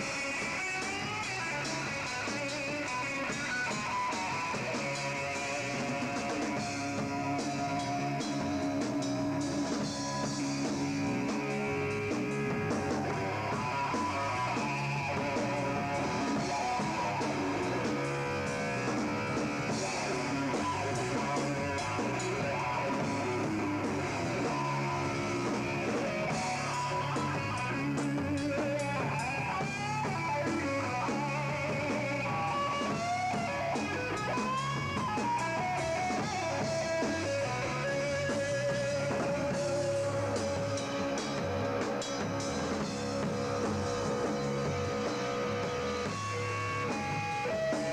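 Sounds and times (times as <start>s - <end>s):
bass guitar: 0.0s - 47.9s
drum kit: 0.0s - 47.9s
electric guitar lead: 0.0s - 47.9s.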